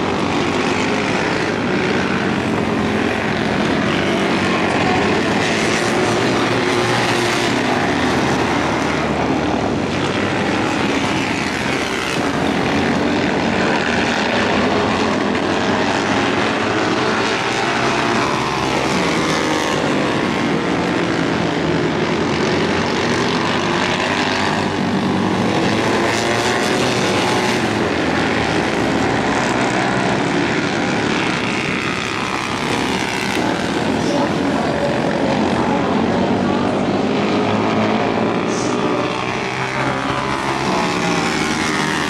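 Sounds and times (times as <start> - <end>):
motorcycle engines racing: 0.0 - 42.0.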